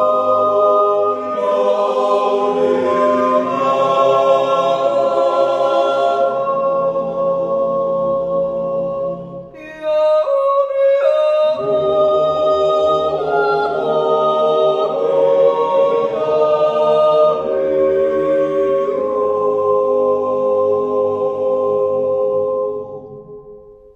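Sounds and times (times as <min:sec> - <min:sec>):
male choir yodeling a cappella: 0:00.0 - 0:23.2.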